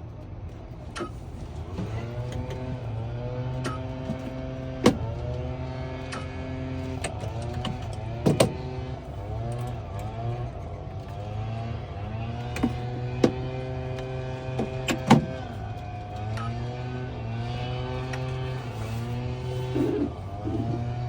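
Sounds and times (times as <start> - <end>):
key-cutting machine motors whining: 1.0 - 21.0.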